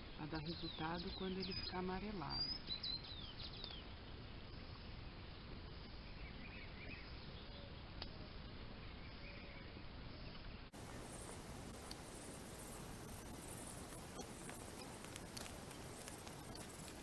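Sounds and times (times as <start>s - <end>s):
steady low outdoor noise: 0.0s - 17.0s
faint bird chirps: 0.1s - 4.7s, 5.3s - 17.0s.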